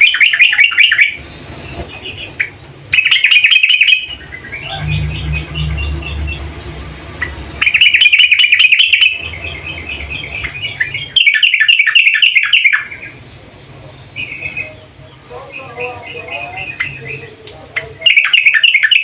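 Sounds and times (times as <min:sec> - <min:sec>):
soft bird chirping: 0:00.0 - 0:19.0.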